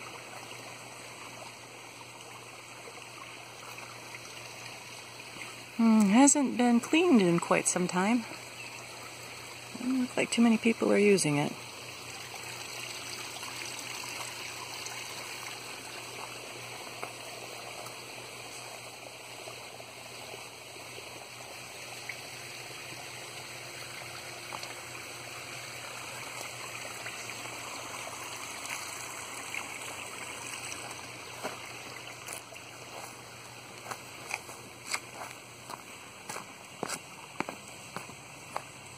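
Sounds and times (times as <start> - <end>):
small waterfall trickling: 0.0 - 38.9.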